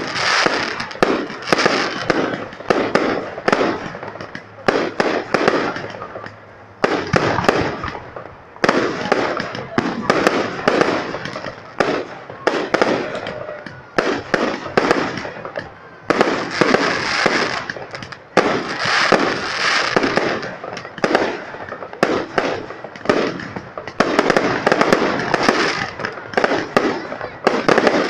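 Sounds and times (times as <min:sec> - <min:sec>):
fireworks bursting with bangs: 0:00.0 - 0:28.0.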